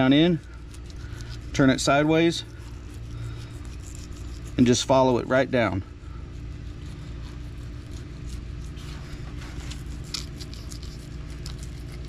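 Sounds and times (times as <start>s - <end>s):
knife scraping fish scales: 0.0s - 5.2s, 6.3s - 12.0s
steady low hum: 0.0s - 12.0s.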